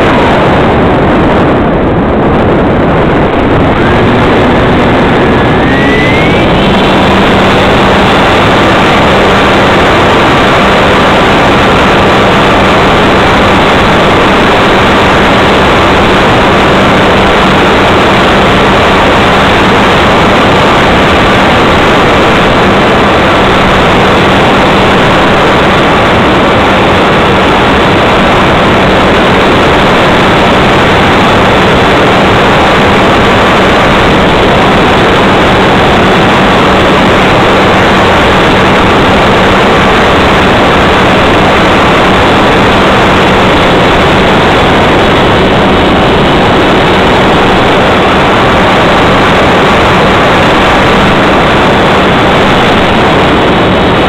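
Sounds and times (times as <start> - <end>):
wind rush on microphone: 0.0 - 54.0
model airplane motor and propeller: 0.2 - 53.1.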